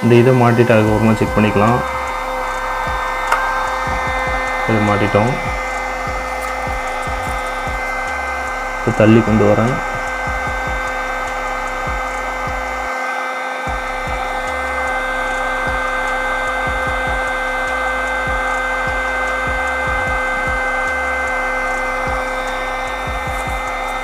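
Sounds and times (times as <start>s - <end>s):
small motor high whine: 0.0s - 24.0s.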